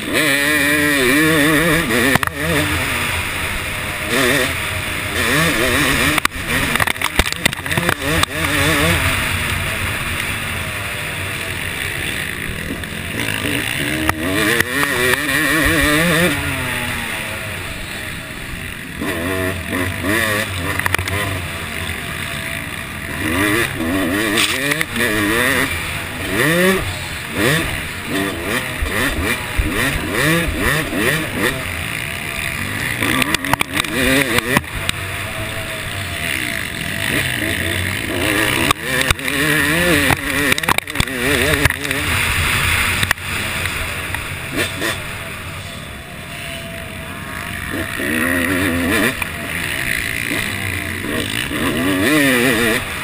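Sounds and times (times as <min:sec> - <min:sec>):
motocross engine revving: 0:00.0 - 0:53.0.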